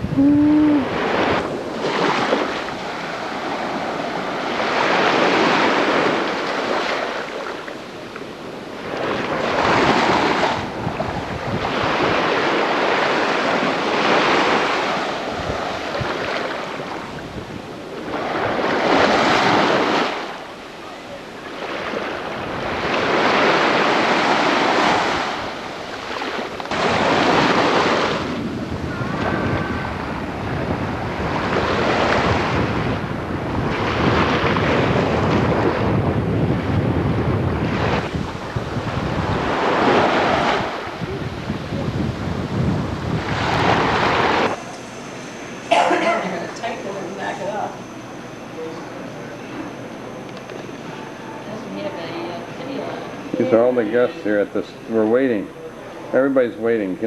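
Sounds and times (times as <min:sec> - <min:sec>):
waves breaking on beach: 0:00.0 - 0:53.8.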